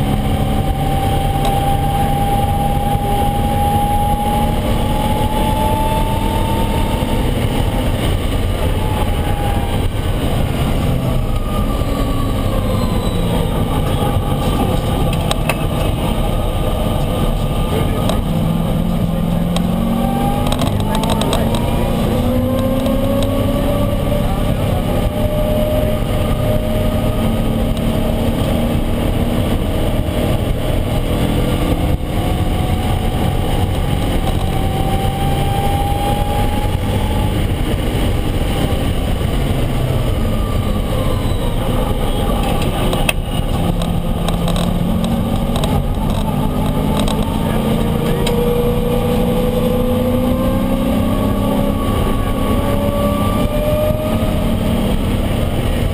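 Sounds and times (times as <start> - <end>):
racing car engine revving: 0.0 - 55.9
road and wind noise: 0.0 - 55.9.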